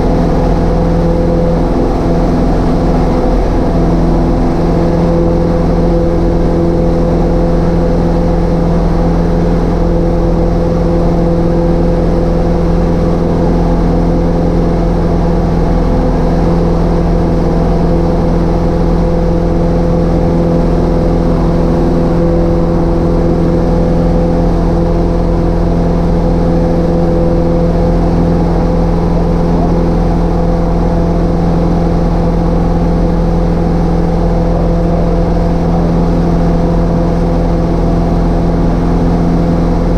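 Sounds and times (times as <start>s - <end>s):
small plane engine and propeller: 0.0s - 39.9s.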